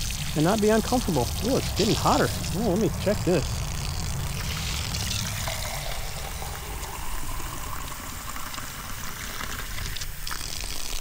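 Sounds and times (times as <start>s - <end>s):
steady low rumble: 0.0s - 9.1s
faucet water pouring into plastic cup: 0.0s - 11.0s.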